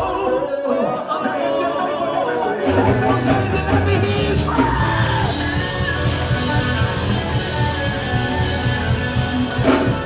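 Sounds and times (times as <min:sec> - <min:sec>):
gospel band playing: 0:00.0 - 0:10.0
guitar: 0:00.0 - 0:10.0.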